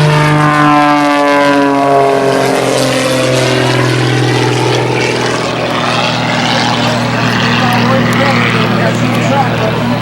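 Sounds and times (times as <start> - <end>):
propeller airplane flying past: 0.0 - 10.0.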